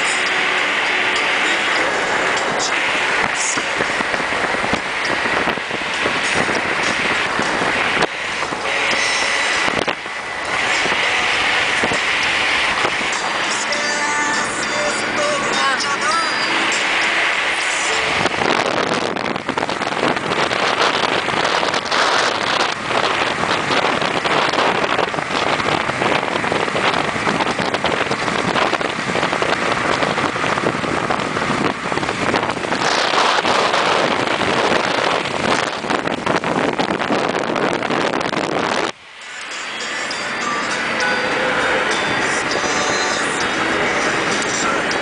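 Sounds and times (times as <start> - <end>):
motorboat engine: 0.0 - 45.0
water under hull: 0.0 - 45.0
wind buffeting microphone: 0.0 - 45.0.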